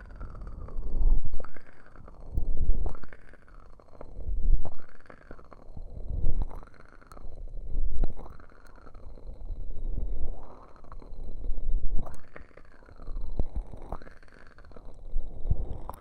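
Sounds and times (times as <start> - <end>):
candle crackling softly: 0.0 - 16.0.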